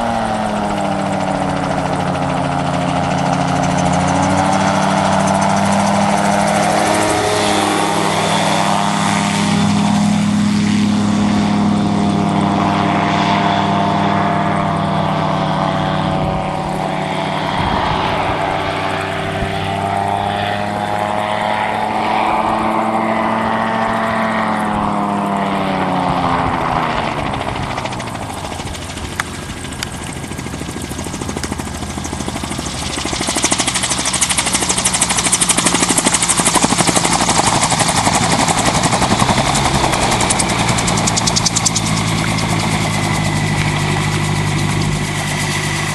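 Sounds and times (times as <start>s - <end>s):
autogyro engine and propeller drone: 0.0s - 45.9s.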